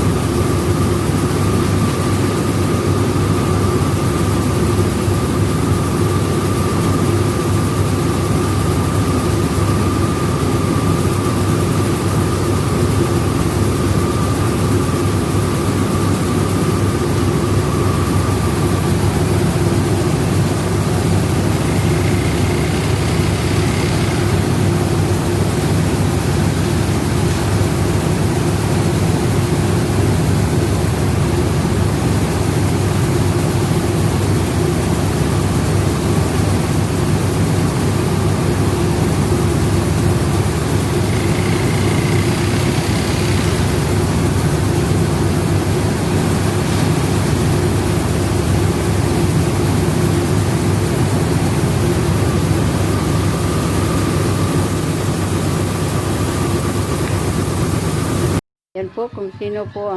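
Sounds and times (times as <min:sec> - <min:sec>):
rice milling machinery running: 0:00.0 - 0:58.4.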